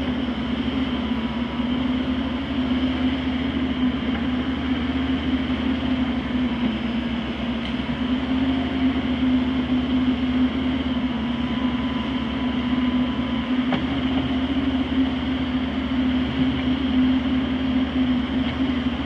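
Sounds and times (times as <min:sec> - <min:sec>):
heavy equipment engine droning: 0:00.0 - 0:19.0.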